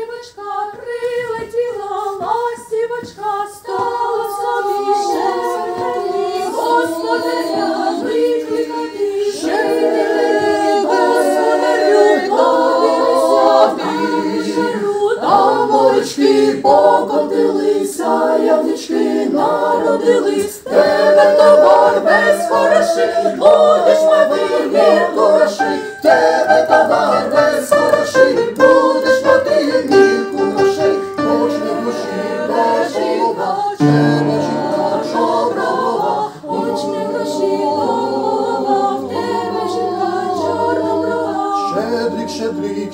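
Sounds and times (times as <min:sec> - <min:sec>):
mixed choir singing a cappella: 0:00.0 - 0:42.9.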